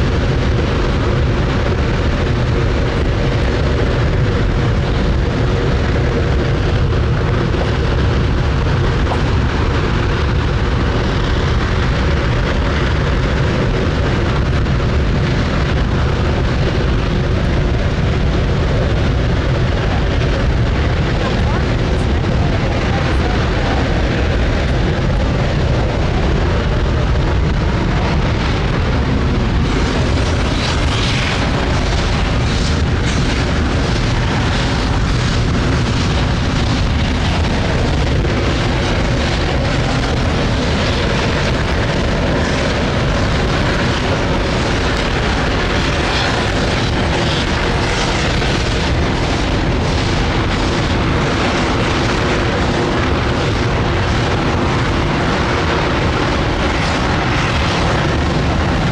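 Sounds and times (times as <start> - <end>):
rocket engine roar with crackle: 0.0 - 58.9.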